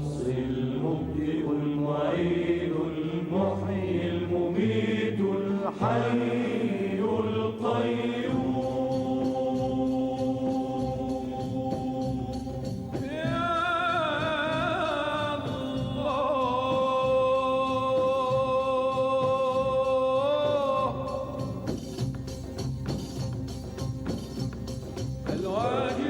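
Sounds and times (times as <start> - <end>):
devotional singing with vibrato: 0.0 - 22.1, 25.2 - 26.0.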